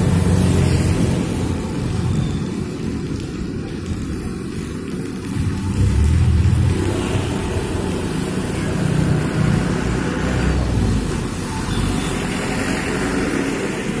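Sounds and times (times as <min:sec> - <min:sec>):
minibus engine rumble: 0:00.0 - 0:14.0
motor scooters driving past: 0:00.0 - 0:14.0
tyres hissing on wet asphalt: 0:00.0 - 0:14.0.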